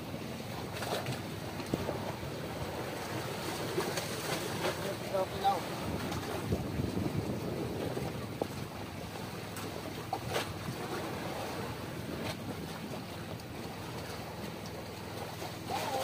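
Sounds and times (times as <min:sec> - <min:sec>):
sea washing: 0:00.0 - 0:16.0
wind: 0:00.0 - 0:16.0.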